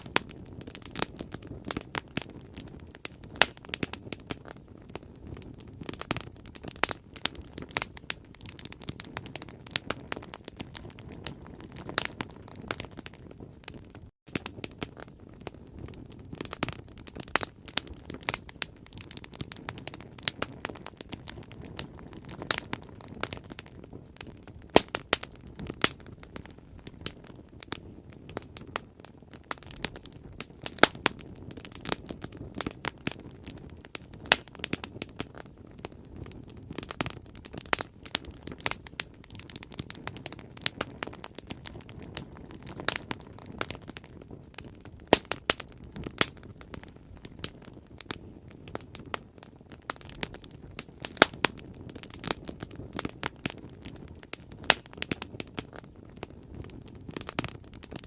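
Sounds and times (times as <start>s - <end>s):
burning wood crackling and popping: 0.0s - 58.0s
low rush of flames: 0.0s - 58.0s.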